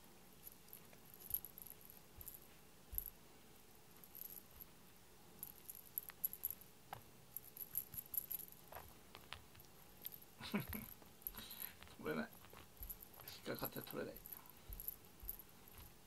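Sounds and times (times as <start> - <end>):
small metallic tinkles: 0.0 - 3.2, 3.9 - 16.0.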